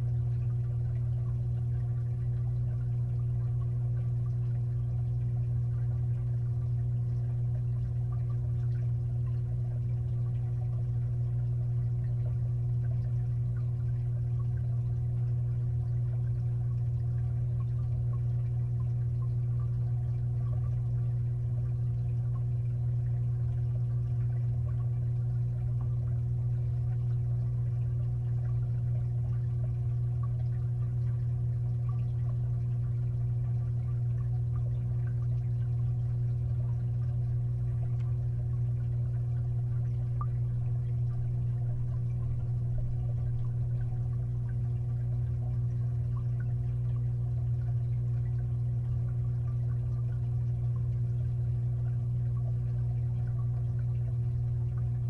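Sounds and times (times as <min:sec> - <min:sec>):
aquarium filter motor hum: 0:00.0 - 0:55.0
faint water movement: 0:00.0 - 0:55.0.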